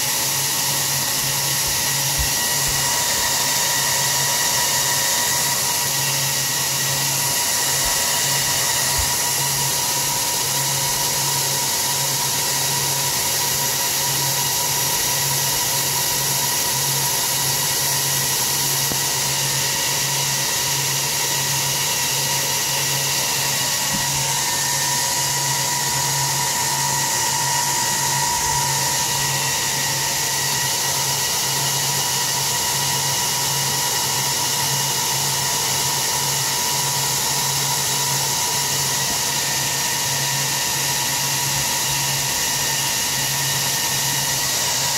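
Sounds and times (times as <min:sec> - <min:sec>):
server cooling fans whirring: 0:00.0 - 0:44.9.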